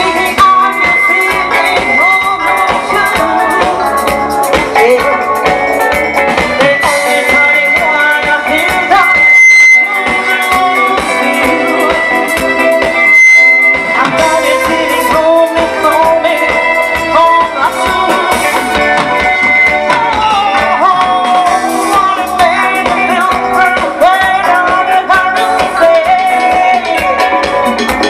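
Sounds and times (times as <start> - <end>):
person singing: 0.0 - 13.0, 13.7 - 28.0
live band music: 0.0 - 28.0
steady drum beat: 0.0 - 28.0.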